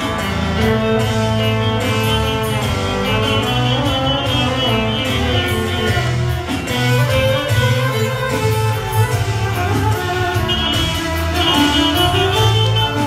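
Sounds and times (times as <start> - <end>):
bouzouki melody: 0.0 - 13.0.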